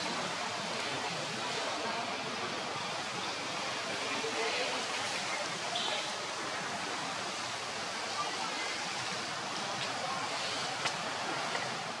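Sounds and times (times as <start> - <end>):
rain falling on leaves: 0.0 - 12.0.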